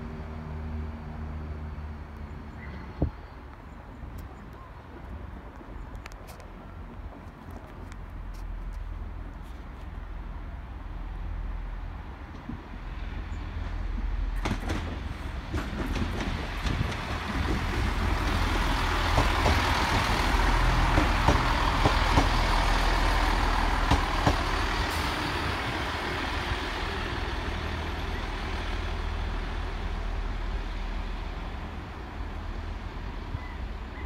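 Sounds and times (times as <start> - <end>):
diesel train engine drone: 0.0 - 34.0.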